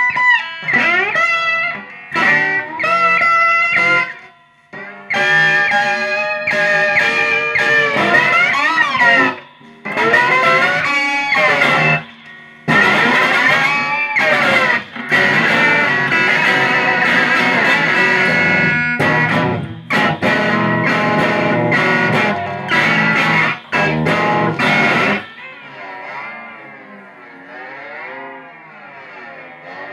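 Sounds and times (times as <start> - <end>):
amplified guitar improvisation: 0.0 - 29.9.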